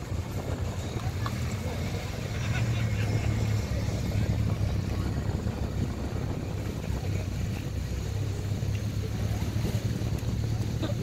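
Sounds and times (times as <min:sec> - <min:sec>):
car engines driving slowly past: 0:00.0 - 0:11.0.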